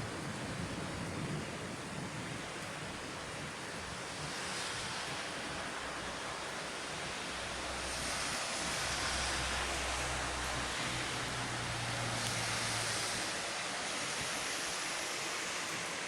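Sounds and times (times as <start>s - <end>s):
rushing hiss of rain: 0.0s - 16.0s.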